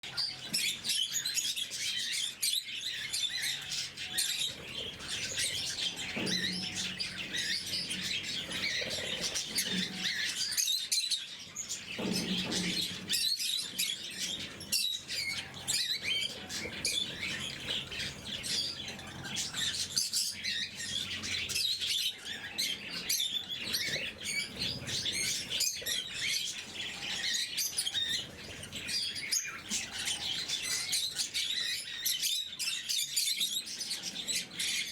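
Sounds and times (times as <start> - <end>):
lovebirds chattering: 0.0 - 34.9.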